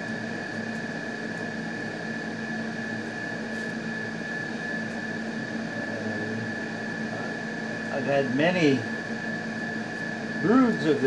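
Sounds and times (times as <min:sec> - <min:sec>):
mechanical hum: 0:00.0 - 0:11.0
thin high whine: 0:00.0 - 0:11.0.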